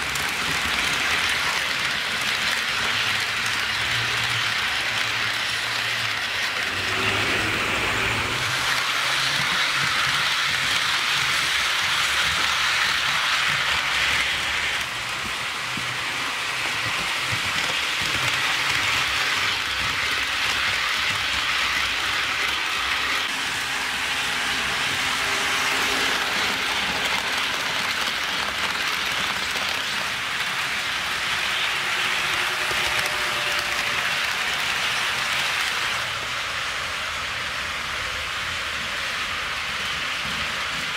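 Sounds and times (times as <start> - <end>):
model trains rolling on track: 0.0 - 40.9.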